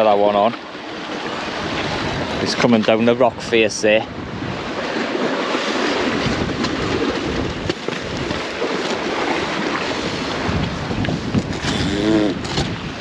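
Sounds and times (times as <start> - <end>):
sea surf against rocks: 0.0 - 13.0
gale wind buffeting microphone: 0.9 - 13.0.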